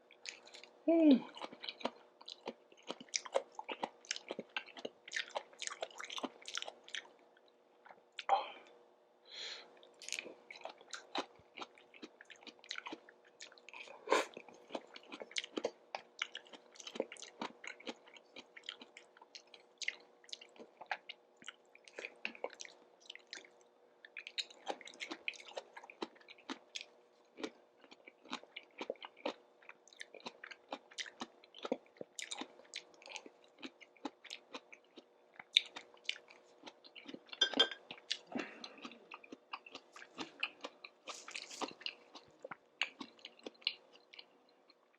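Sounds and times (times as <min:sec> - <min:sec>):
chewing food: 0:00.0 - 0:08.3, 0:09.7 - 0:44.9.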